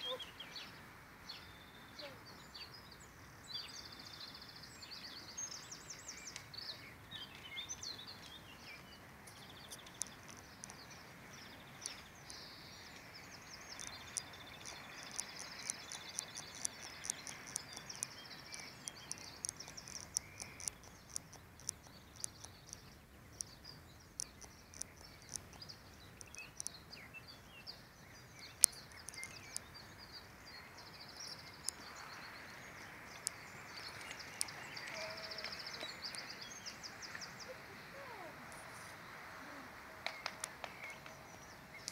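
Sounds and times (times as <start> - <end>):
birds singing: 0.0 - 41.9
faint outdoor hiss: 0.0 - 41.9.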